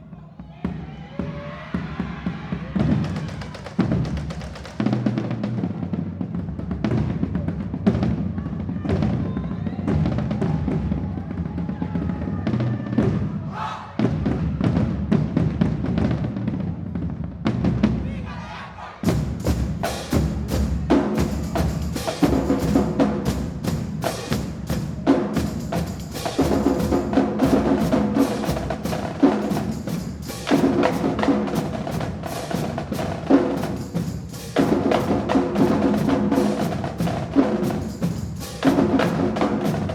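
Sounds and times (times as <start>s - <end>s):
marching drumline: 0.0s - 39.9s.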